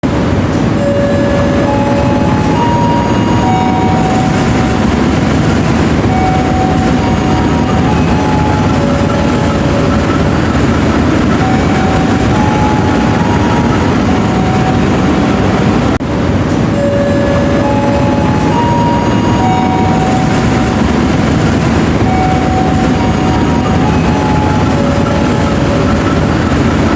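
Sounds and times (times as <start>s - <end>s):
train rumbling: 0.0s - 26.9s
faint tune of held notes: 0.5s - 16.0s, 16.8s - 26.9s.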